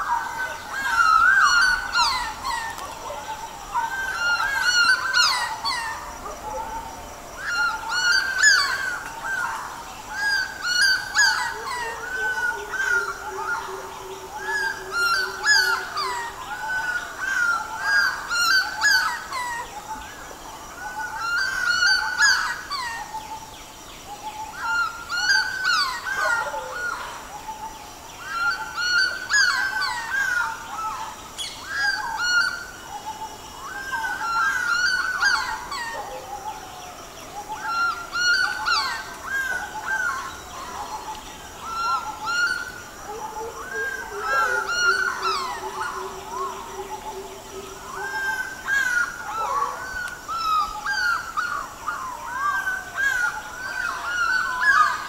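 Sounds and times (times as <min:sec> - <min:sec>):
many birds chirping: 0:00.0 - 0:55.0.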